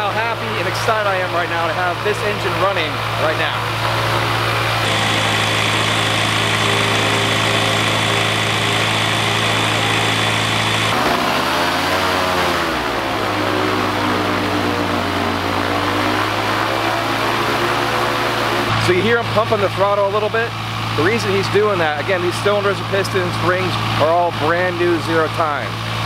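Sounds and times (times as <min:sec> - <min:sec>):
aircraft engine and propeller revving: 0:00.0 - 0:26.0.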